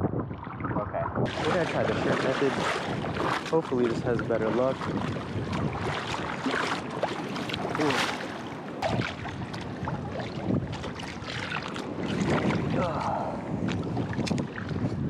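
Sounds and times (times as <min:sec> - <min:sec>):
water sloshing and lapping: 0:00.0 - 0:15.0
wind noise on microphone: 0:00.0 - 0:15.0
small splashes: 0:01.3 - 0:14.9.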